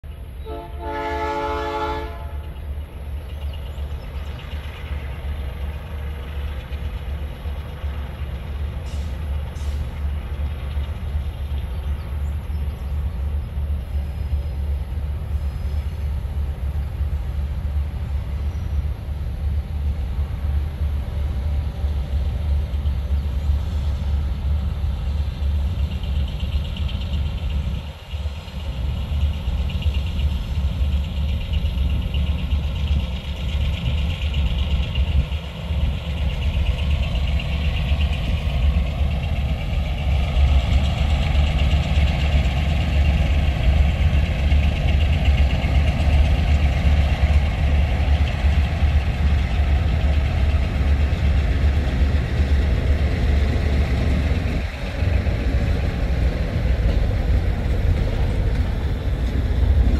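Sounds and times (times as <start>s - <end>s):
locomotive engine rumble: 0.0s - 59.9s.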